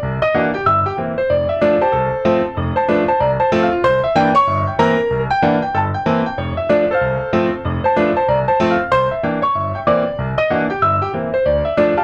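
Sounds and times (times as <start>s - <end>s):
piano playing steady notes: 0.0s - 12.0s.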